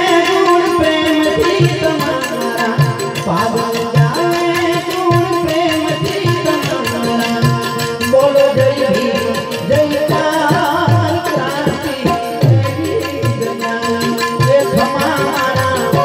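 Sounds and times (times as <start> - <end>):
harmonium held notes: 0.0 - 16.0
man singing: 0.0 - 16.0.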